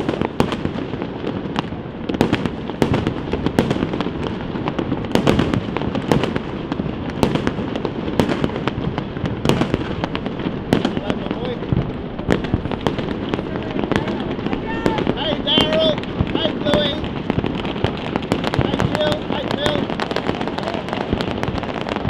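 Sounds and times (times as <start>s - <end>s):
fireworks bangs: 0.0s - 22.0s
fireworks crackle: 0.0s - 22.0s.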